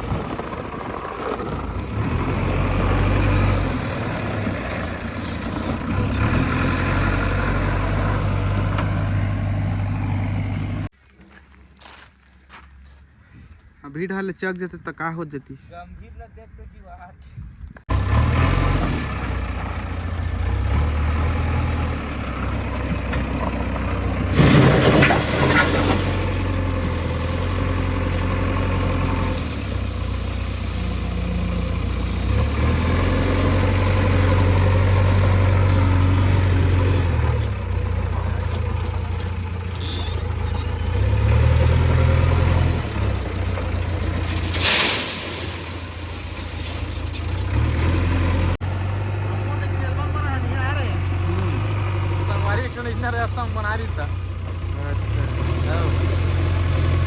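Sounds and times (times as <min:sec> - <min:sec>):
heavy diesel engine working: 0:00.0 - 0:10.9, 0:17.9 - 0:57.0.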